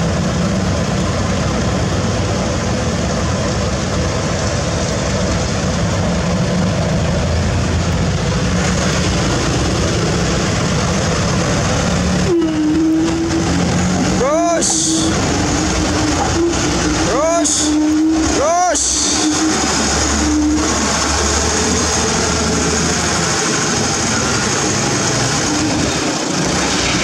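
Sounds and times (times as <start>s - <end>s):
heavy diesel machinery running: 0.0s - 27.0s
steady high whine: 0.0s - 27.0s.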